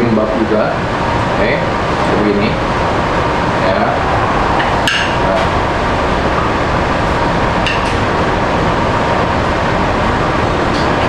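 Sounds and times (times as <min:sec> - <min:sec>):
room rumble: 0:00.0 - 0:11.0.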